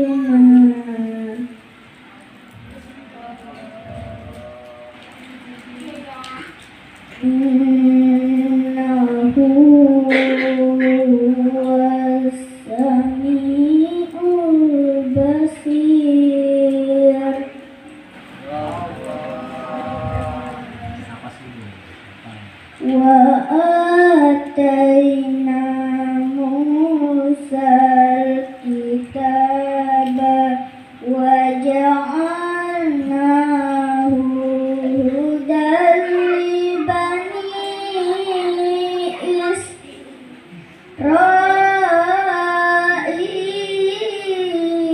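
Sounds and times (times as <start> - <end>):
boy chanting melodically: 0.0 - 1.7, 2.6 - 21.4, 22.5 - 44.9.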